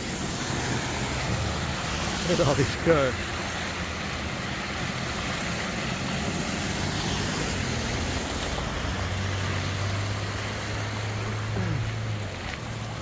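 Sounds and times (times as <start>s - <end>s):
car engine drone: 0.0s - 13.0s
tyre noise on wet road: 0.0s - 13.0s.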